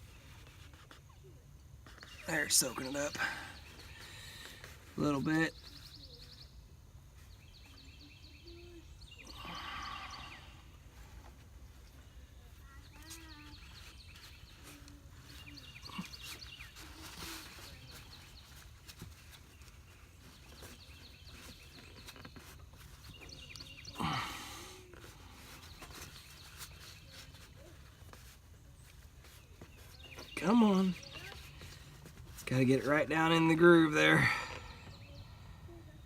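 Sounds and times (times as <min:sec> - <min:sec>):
faint bird chirps: 0:00.0 - 0:32.3.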